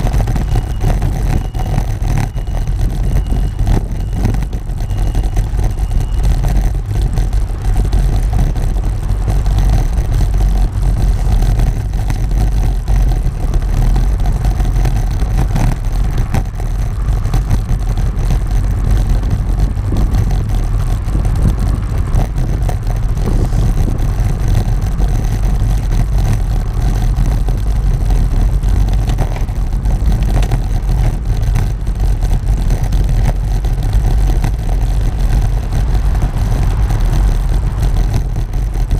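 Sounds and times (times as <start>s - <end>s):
wheels rumbling over stone paving: 0.0s - 38.9s.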